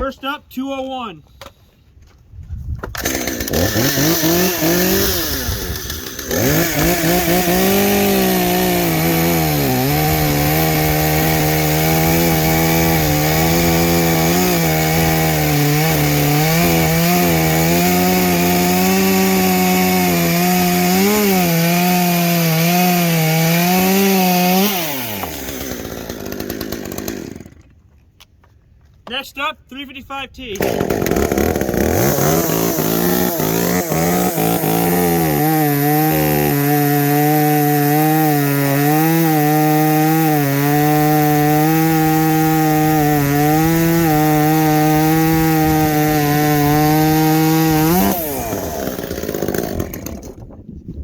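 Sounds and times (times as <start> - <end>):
chainsaw revving: 3.0 - 27.6, 30.6 - 50.4.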